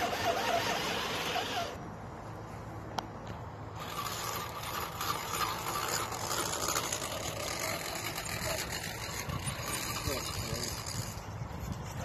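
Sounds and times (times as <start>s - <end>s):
electric motor and gears whirring: 0.0s - 1.8s, 3.3s - 12.0s.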